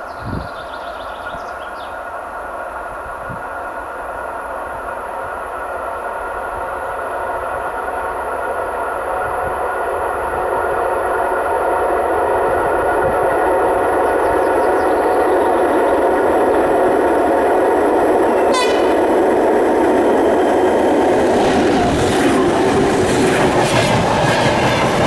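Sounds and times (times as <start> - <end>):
diesel locomotive rumbling: 0.0 - 25.0.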